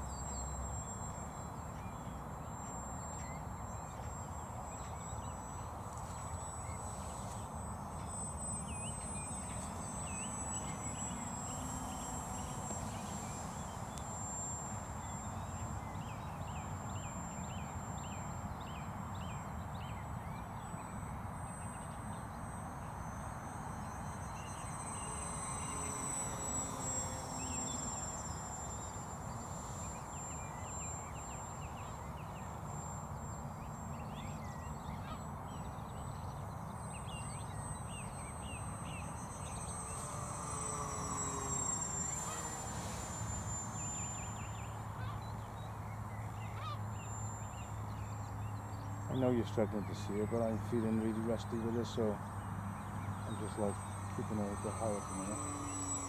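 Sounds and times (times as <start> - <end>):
birds chirping: 0.0 - 56.0
thin high whine: 0.0 - 56.0.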